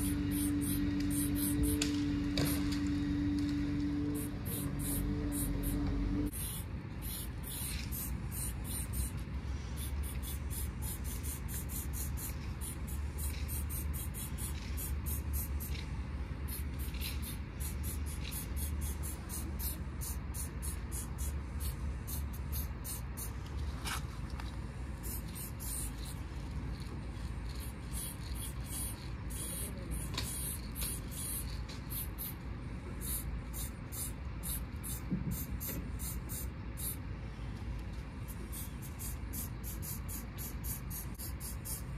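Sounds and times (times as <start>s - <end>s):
spray paint can hissing: 0.0s - 2.7s, 4.1s - 15.9s, 16.5s - 23.5s, 24.9s - 32.4s, 33.0s - 37.0s, 38.2s - 41.9s
steady low rumble: 0.0s - 41.9s.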